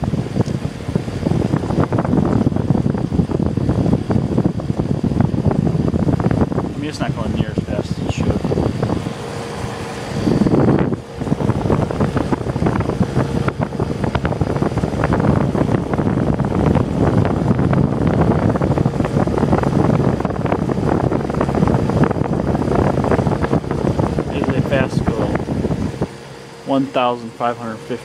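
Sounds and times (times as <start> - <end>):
wind buffeting microphone: 0.0 - 27.1
dehumidifier running: 0.0 - 28.0.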